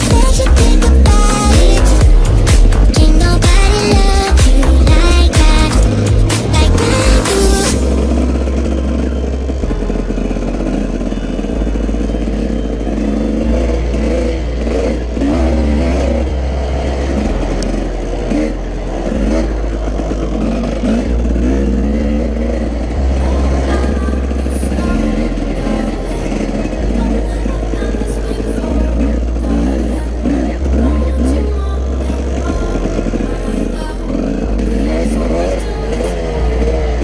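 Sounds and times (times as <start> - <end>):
dirt bike engine revving: 0.0 - 37.0
music with low bass line: 0.0 - 37.0.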